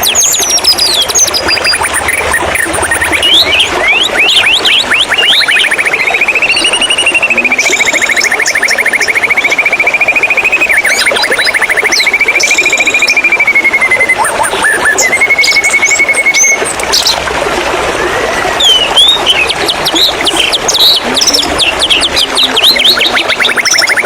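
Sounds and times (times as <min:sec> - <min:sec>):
bird singing fast trill: 0:00.0 - 0:17.2, 0:18.6 - 0:24.0.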